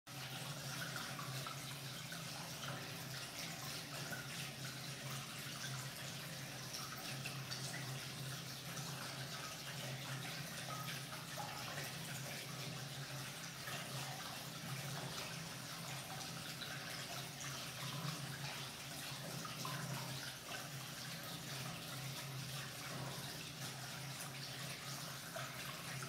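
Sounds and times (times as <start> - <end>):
water trickling and splashing: 0.1 - 26.0.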